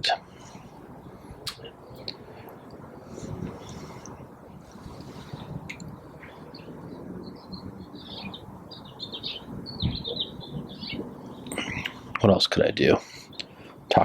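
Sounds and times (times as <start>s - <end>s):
low steady background noise: 0.0s - 14.0s
small birds chirping: 0.0s - 14.0s.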